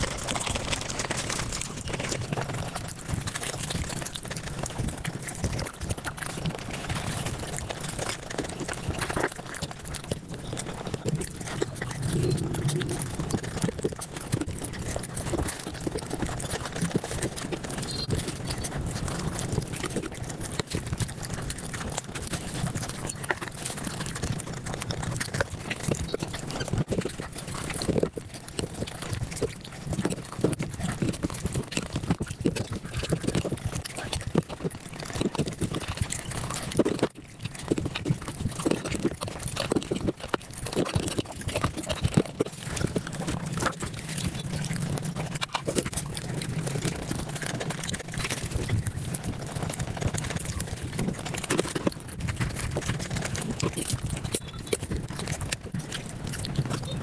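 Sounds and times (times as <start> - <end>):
sped-up chewing and lip-smacking: 0.0 - 57.0.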